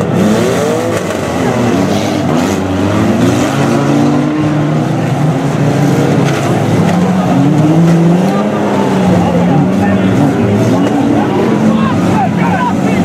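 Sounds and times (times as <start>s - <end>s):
racing car engines revving: 0.0s - 13.0s.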